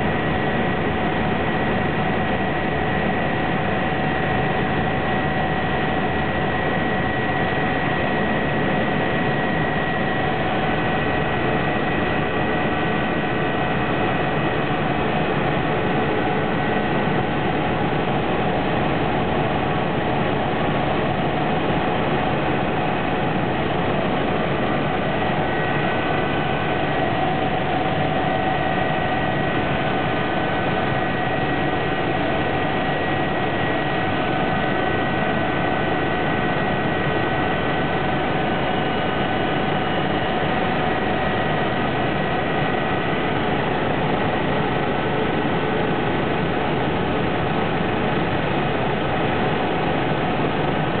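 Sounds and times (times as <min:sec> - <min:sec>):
helicopter cabin rotor noise: 0:00.0 - 0:51.0
high steady whines: 0:00.0 - 0:51.0.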